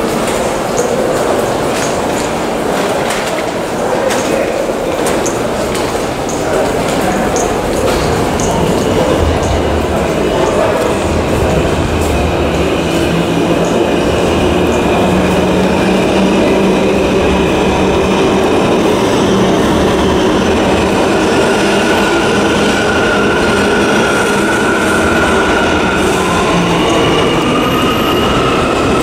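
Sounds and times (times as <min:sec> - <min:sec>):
subway train rumble and rattle: 0:00.0 - 0:29.0.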